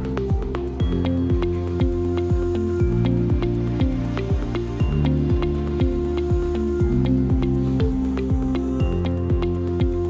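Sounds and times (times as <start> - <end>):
held synth chords: 0.0 - 10.0
steady kick drum: 0.0 - 10.0
upbeat electronic music: 0.0 - 10.0.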